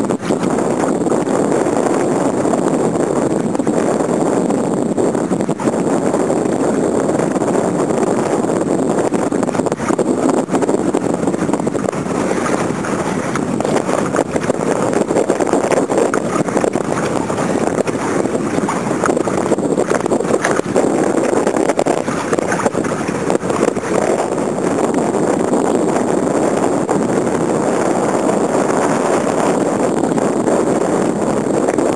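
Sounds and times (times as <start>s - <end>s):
wind on microphone: 0.0s - 31.9s
lake water splashing: 0.1s - 31.9s.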